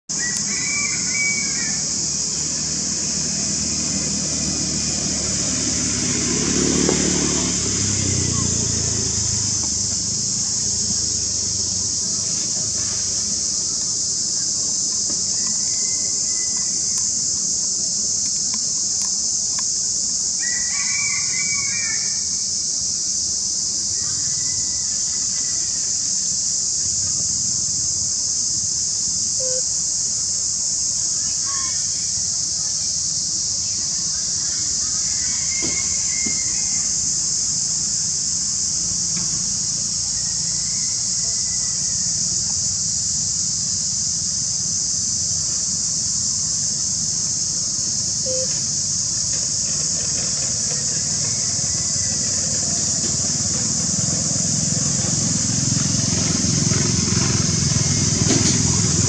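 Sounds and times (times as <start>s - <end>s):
insects droning: 0.1s - 59.0s.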